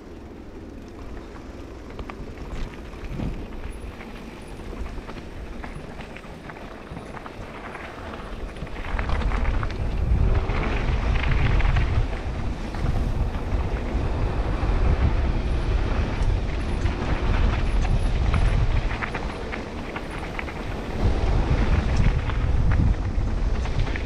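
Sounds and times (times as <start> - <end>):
bike tyres rattling over rough ground: 0.0 - 24.0
wind buffeting microphone: 0.0 - 24.0.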